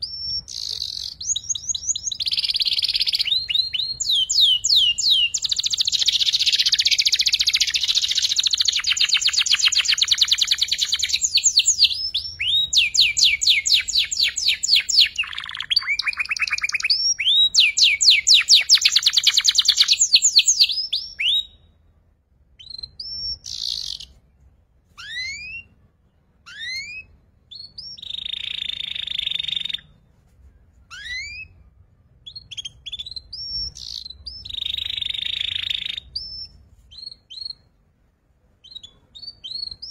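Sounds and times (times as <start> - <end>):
canary rising chirps: 0.0 - 21.6, 22.6 - 24.2, 25.0 - 25.8, 26.4 - 30.0, 30.9 - 31.6, 32.2 - 37.7
canary singing trills: 0.0 - 21.7, 22.6 - 24.2, 25.0 - 30.0, 30.9 - 37.8, 38.6 - 39.9.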